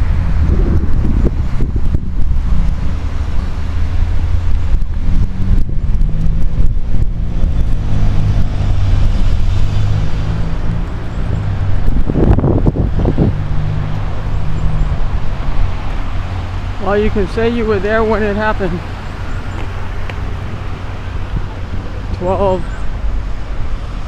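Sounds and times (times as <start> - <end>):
road traffic engine hum: 0.0 - 24.0
vehicle passing by: 0.0 - 24.0.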